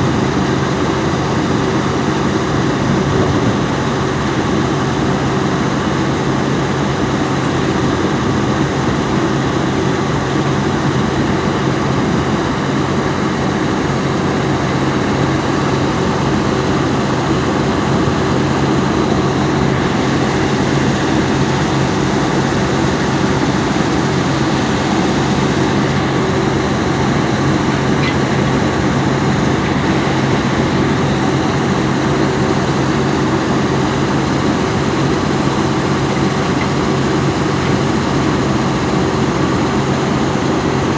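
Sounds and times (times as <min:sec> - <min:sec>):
excavator diesel engine droning: 0:00.0 - 0:40.9.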